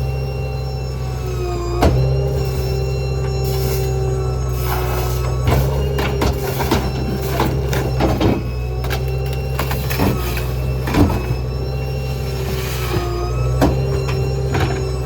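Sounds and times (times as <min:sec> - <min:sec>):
garbage truck engine drone: 0:00.0 - 0:15.0
hydraulic whine: 0:00.0 - 0:15.0
debris cracking in hopper: 0:01.8 - 0:15.0.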